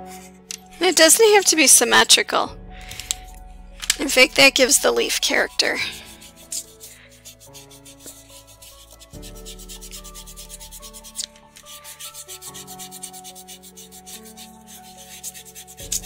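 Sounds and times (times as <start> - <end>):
drawing tool scratching paper: 0.0 - 1.6, 3.9 - 16.0
soft background music chords: 0.0 - 16.0.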